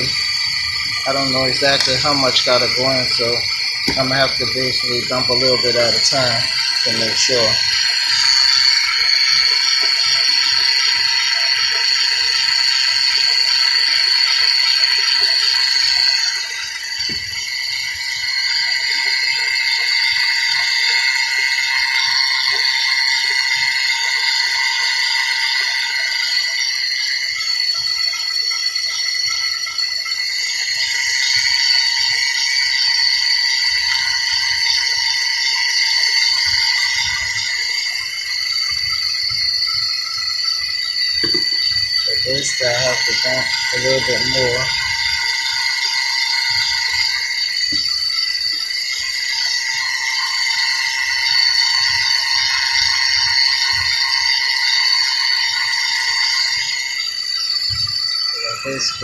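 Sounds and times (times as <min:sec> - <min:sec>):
high-pitched engine whine: 0:00.0 - 0:59.0.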